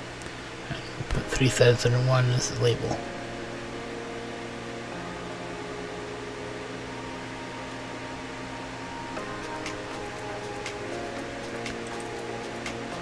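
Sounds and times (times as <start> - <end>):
held synth chords: 1.0 - 13.0.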